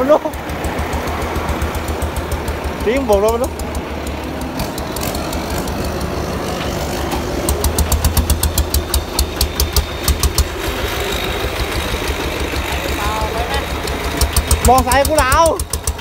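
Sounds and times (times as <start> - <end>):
diesel truck engine passing: 0.0 - 16.0
engine clattering knock: 0.0 - 16.0.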